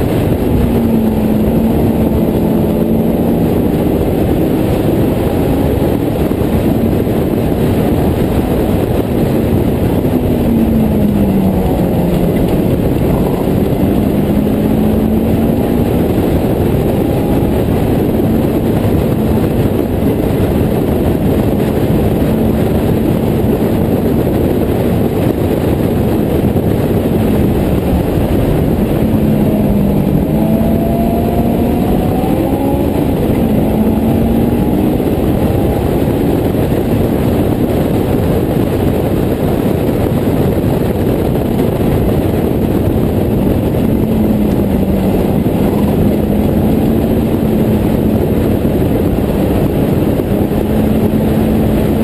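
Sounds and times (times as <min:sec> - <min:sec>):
car engine revving: 0:00.0 - 0:52.0
wind noise: 0:00.0 - 0:52.0.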